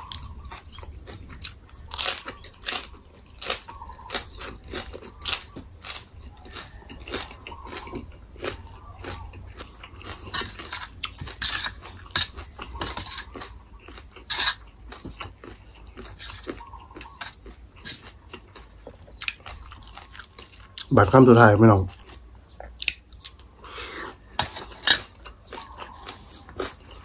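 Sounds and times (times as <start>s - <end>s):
crunchy chewing: 0.0s - 27.0s.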